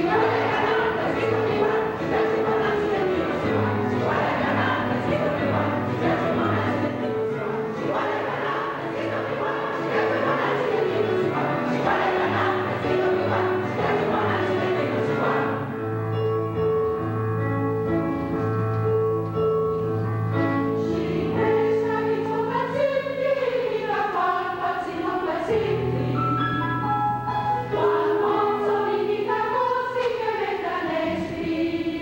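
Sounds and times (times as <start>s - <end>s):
mixed choir singing: 0.0s - 15.9s, 20.6s - 26.6s, 27.4s - 32.0s.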